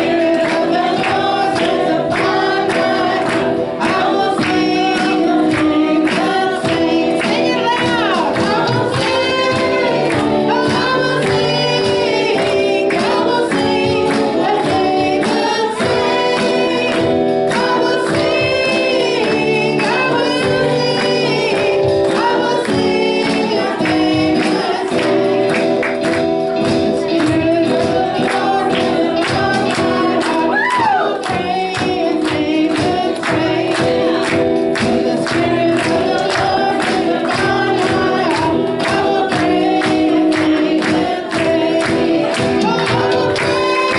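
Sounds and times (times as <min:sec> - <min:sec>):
band with steady beat: 0:00.0 - 0:43.9
group of voices singing: 0:00.0 - 0:43.9.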